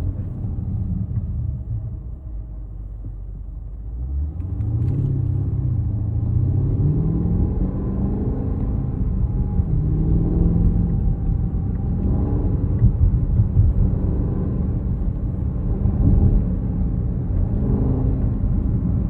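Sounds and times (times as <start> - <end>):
car cabin low rumble: 0.0 - 19.0.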